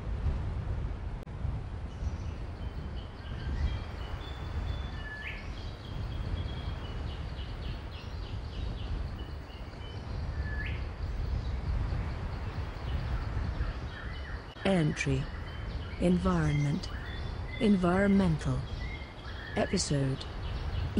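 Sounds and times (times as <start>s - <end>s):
steady low rumble: 0.0s - 20.9s
birds chirping: 1.9s - 20.9s.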